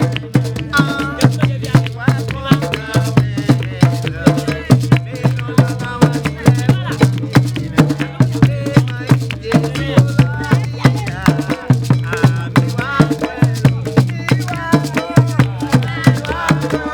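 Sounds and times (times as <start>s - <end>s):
hand drums beating: 0.0s - 16.9s
shaker rattling: 0.0s - 16.9s
voices singing: 0.0s - 16.9s.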